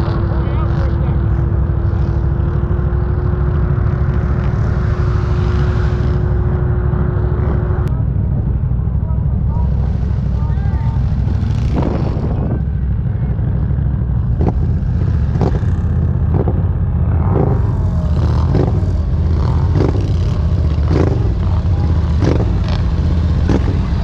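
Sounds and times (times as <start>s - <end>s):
atv engine running under load: 0.0s - 24.0s.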